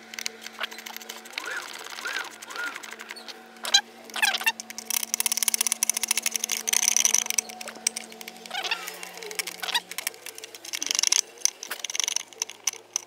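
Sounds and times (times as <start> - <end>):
rapid run of clicks: 0.0 - 13.0
chirping: 0.3 - 13.0.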